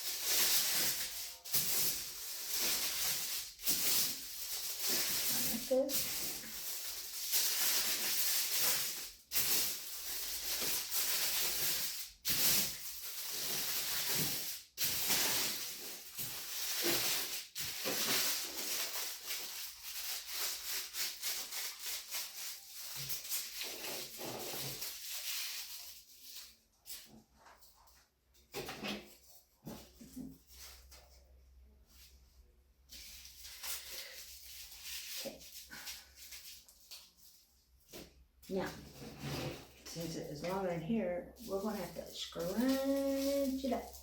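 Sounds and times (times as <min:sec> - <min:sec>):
aluminum foil crinkling: 0:00.0 - 0:32.1, 0:32.9 - 0:44.0.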